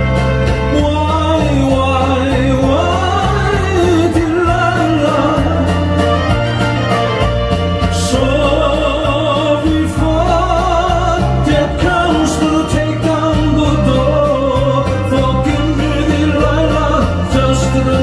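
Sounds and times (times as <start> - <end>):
amplified backing track: 0.0 - 18.0
steady drum beat: 0.0 - 18.0
stepping bass line: 0.0 - 18.0.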